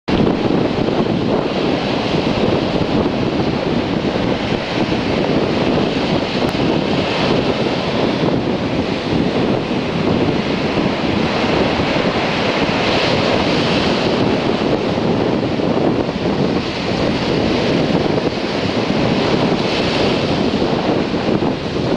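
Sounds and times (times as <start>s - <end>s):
ocean surf breaking: 0.1s - 21.9s
wind buffeting microphone: 0.1s - 21.9s.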